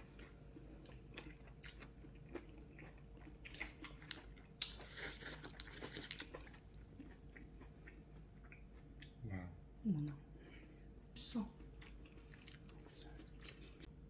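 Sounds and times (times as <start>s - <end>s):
person chewing food: 0.0s - 9.2s, 11.6s - 13.9s.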